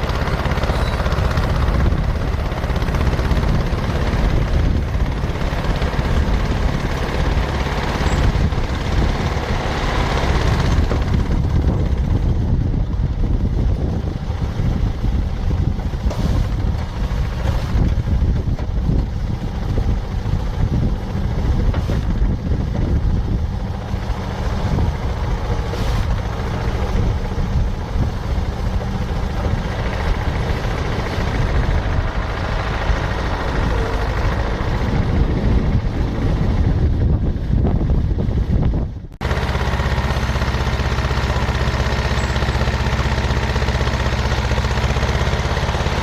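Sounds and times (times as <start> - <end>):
crawler dozer running: 0.0 - 46.0.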